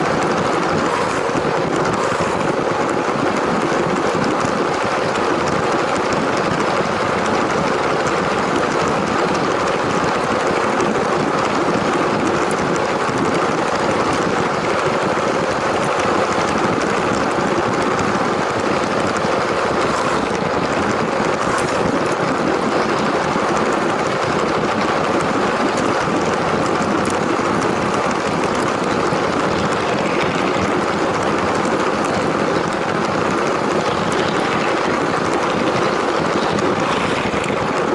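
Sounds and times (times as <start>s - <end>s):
toy train motor running on track: 0.0s - 37.9s.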